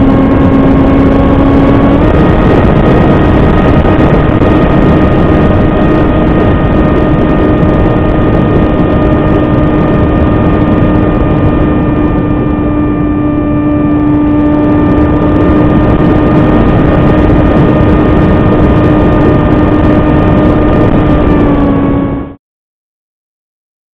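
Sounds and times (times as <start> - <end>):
model plane motor whine: 0.0 - 22.4
rush of air noise: 0.0 - 22.4.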